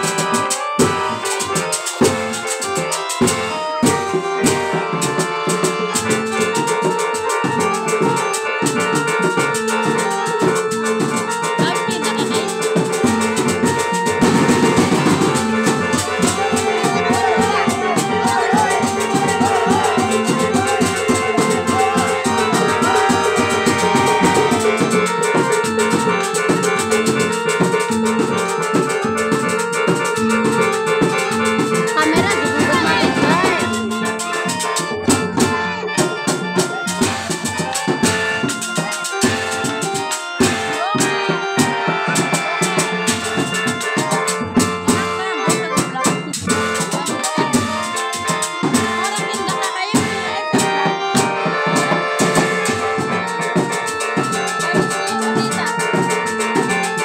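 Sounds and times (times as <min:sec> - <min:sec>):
drum band with steady beat: 0:00.0 - 0:57.0
sustained melodic accompaniment: 0:00.0 - 0:57.0
wavering melody line: 0:00.0 - 0:57.0.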